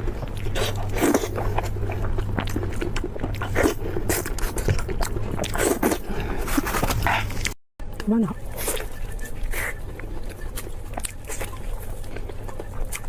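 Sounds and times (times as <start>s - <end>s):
chewing crisp food: 0.0s - 13.0s
low steady hum: 0.0s - 13.0s.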